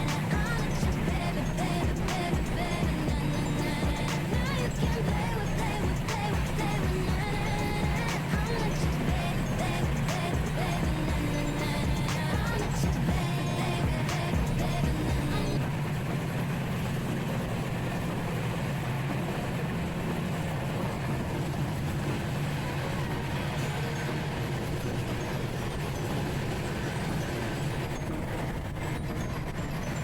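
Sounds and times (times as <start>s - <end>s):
passenger train running: 0.0s - 30.0s.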